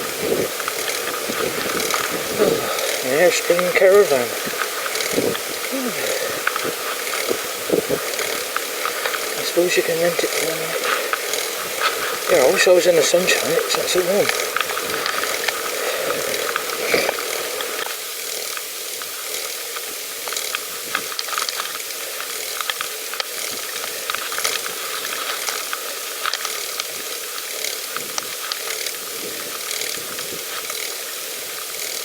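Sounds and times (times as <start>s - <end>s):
tyres and wind hissing: 0.0s - 31.9s
bicycle freewheel ticking: 0.0s - 32.0s.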